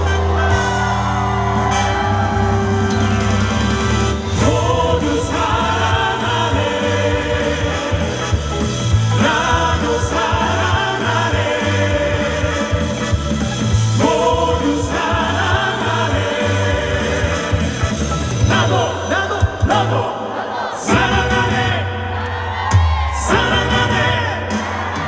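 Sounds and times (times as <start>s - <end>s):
live rock band: 0.0s - 20.1s, 22.7s - 25.0s
men singing in harmony: 4.2s - 22.5s, 23.2s - 25.0s.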